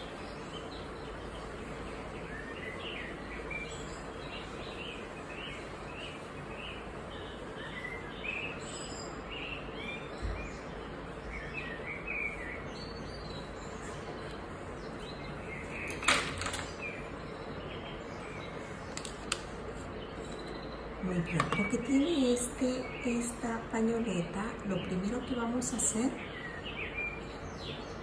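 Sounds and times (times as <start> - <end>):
small birds chirping: 0.0 - 28.0
steady background hiss: 0.0 - 28.0.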